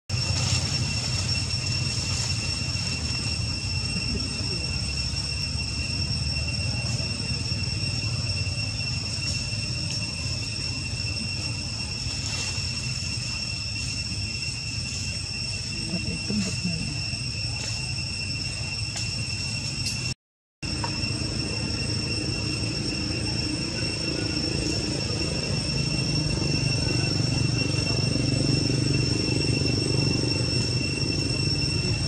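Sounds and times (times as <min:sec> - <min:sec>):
high-pitched whine: 0:00.1 - 0:32.0.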